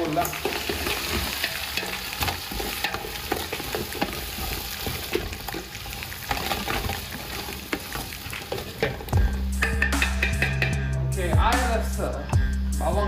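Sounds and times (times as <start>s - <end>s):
shallots sizzling in oil: 0.0s - 10.9s.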